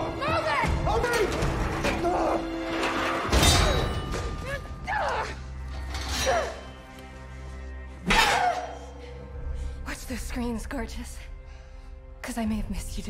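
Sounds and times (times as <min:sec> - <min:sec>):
tense music score: 0:00.0 - 0:13.0.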